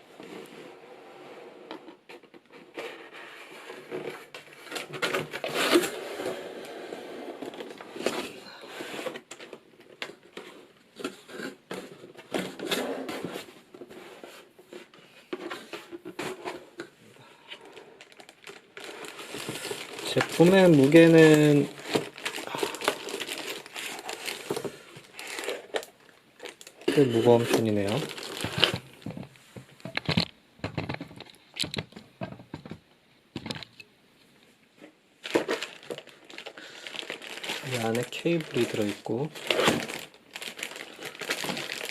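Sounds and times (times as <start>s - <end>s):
cardboard packaging being handled: 2.1s - 16.9s, 17.6s - 30.3s, 35.2s - 41.9s.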